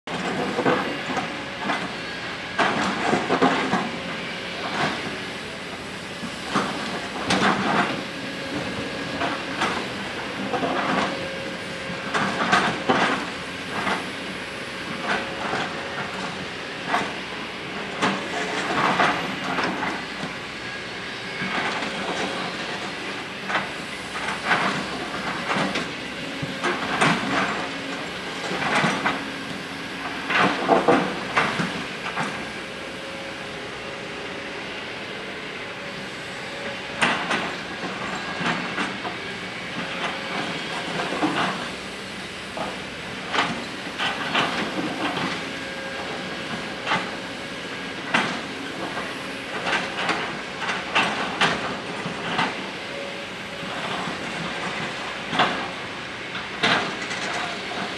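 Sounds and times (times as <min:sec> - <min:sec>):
excavator engine running: 0:00.1 - 0:57.9.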